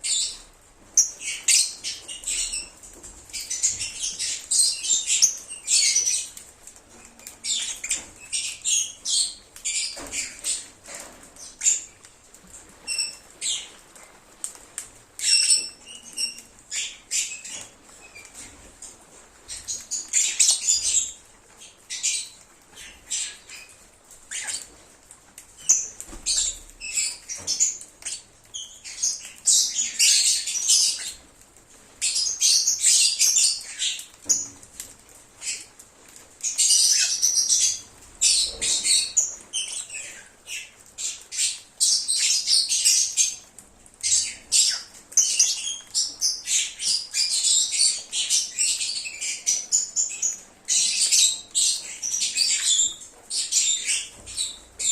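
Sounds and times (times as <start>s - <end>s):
lovebirds chirping and squawking: 0.0s - 54.9s.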